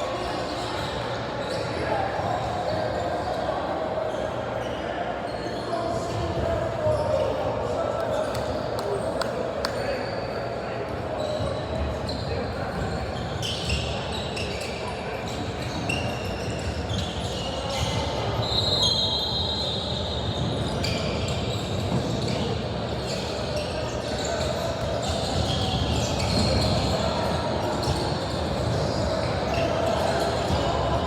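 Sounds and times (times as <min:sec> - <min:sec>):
gym background noise: 0:00.0 - 0:31.0
sneaker squeaks: 0:00.0 - 0:31.0.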